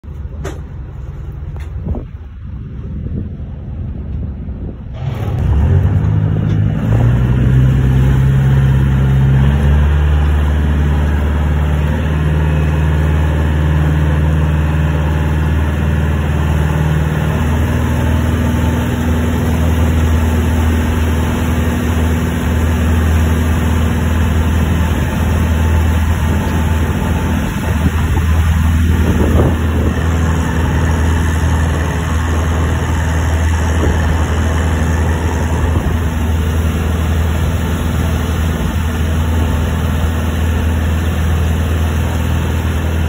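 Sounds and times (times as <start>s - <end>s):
boat engine running: 0.0s - 43.0s
water rushing past hull: 4.8s - 43.0s.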